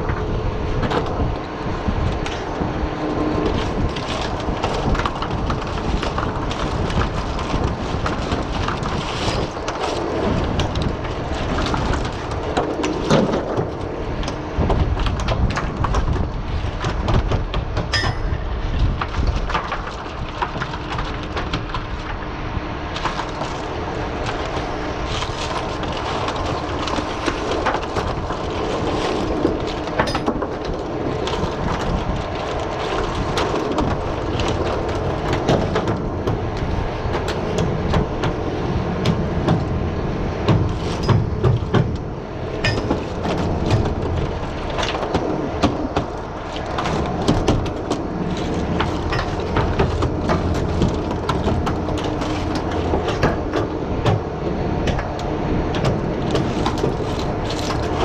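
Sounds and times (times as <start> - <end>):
boat engine rumble: 0.0 - 58.0.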